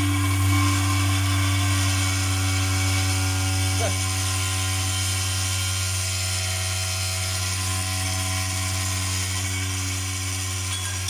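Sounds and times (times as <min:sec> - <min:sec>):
sauna stove droning: 0:00.0 - 0:11.0.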